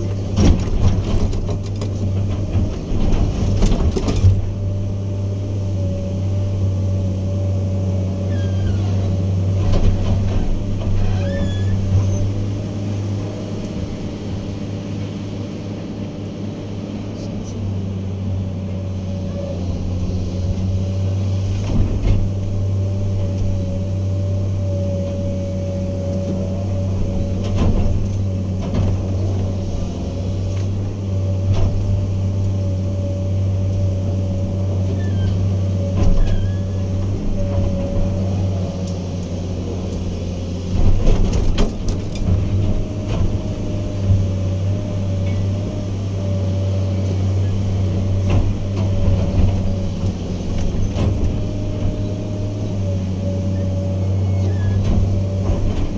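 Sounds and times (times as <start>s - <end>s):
diesel engine running under load: 0.0s - 55.9s.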